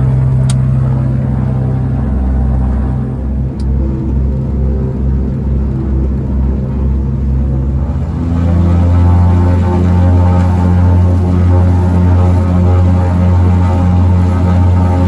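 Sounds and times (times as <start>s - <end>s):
propeller plane engine throbbing: 0.0s - 15.0s.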